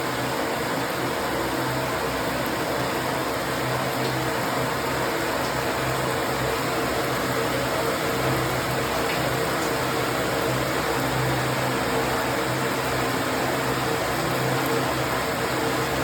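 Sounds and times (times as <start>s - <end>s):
steady rain hiss: 0.1s - 16.0s.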